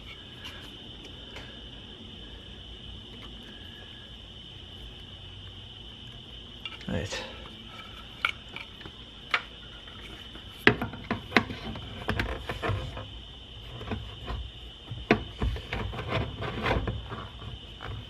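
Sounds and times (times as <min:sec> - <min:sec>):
steady high-pitched hum: 0:00.0 - 0:18.0.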